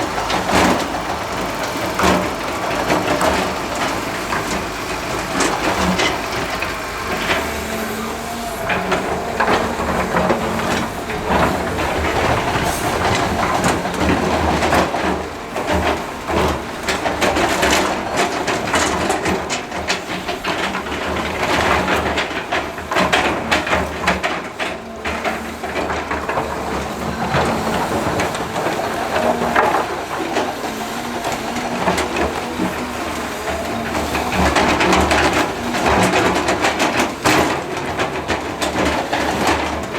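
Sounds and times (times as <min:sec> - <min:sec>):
excavator running under load: 0:00.0 - 0:39.9
rock and earth clattering: 0:00.0 - 0:39.9.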